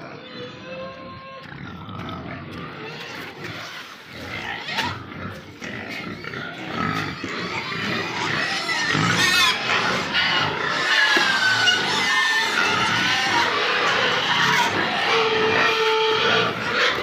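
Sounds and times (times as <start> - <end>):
pigs squealing: 0.0 - 17.0.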